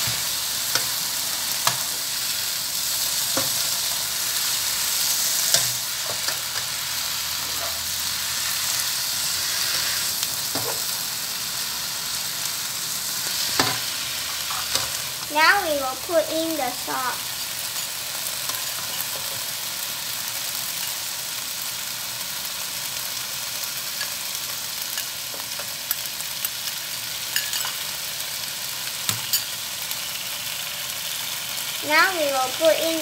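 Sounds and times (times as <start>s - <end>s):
greens sizzling in a wok: 0.0s - 33.0s.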